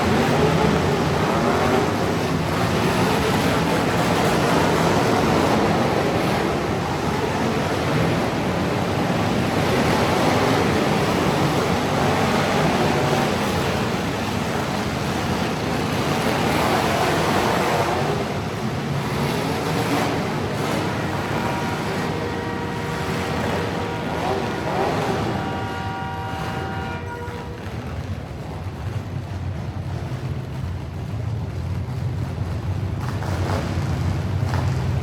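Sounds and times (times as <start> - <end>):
truck engines running: 0.0 - 35.0.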